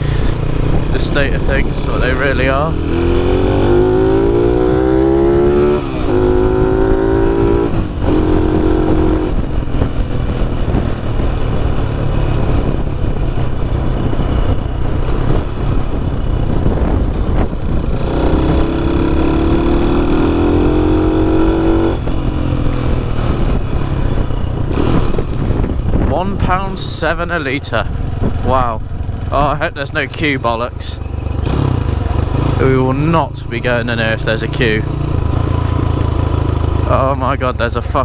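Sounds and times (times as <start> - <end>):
low rumble: 0.0 - 38.0
motorcycle engine accelerating: 0.0 - 38.0.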